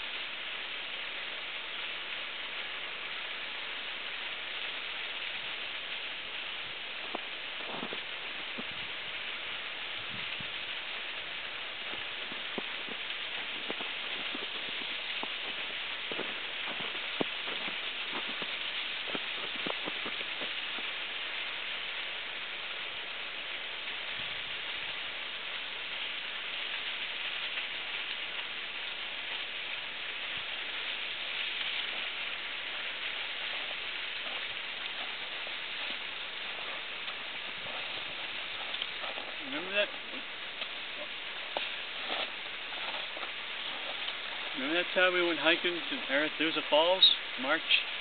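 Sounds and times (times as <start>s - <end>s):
waterfall rushing under ice: 0.0s - 48.0s.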